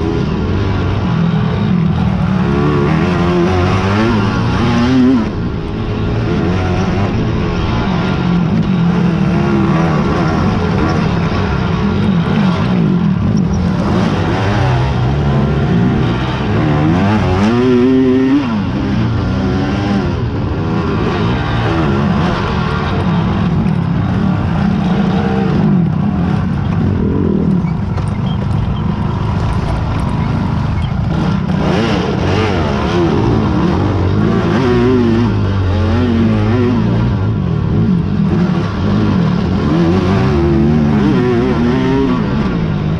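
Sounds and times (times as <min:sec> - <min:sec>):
quad engines revving: 0:00.0 - 0:42.9.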